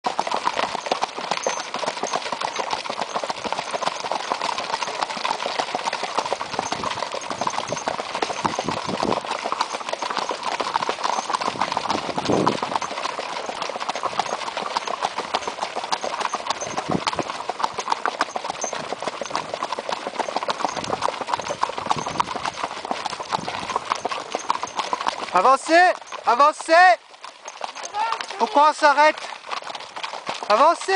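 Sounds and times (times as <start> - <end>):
horses' hooves on gravel: 0.0 - 30.9.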